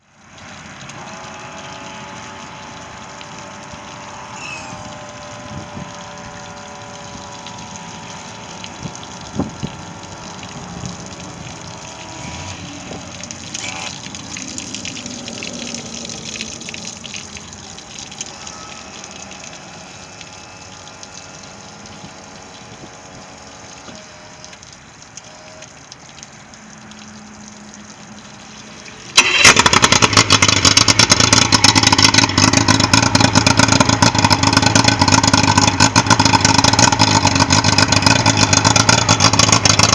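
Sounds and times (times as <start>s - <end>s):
outboard motor running: 0.0s - 39.9s
water sounds: 0.0s - 39.9s.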